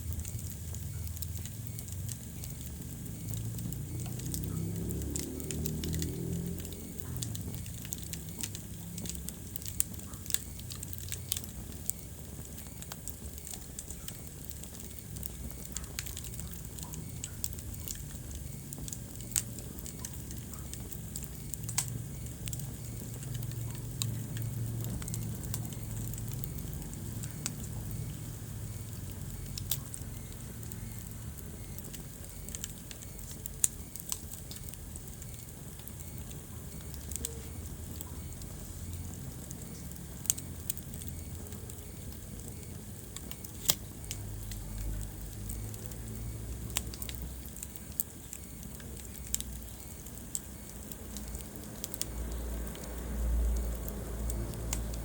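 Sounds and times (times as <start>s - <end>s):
fire crackling and popping: 0.0s - 55.0s
wood fire burning: 0.0s - 55.0s.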